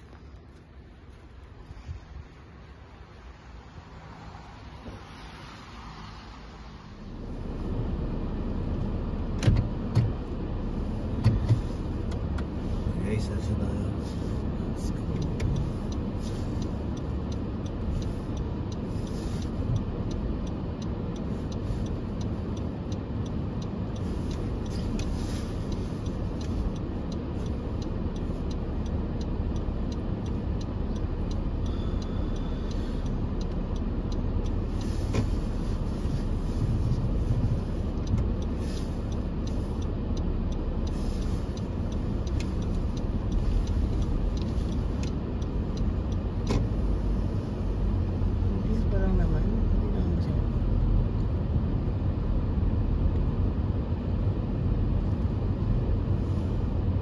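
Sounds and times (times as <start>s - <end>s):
car engine and tyres on snow: 0.0s - 57.0s
light ticks: 8.6s - 57.0s.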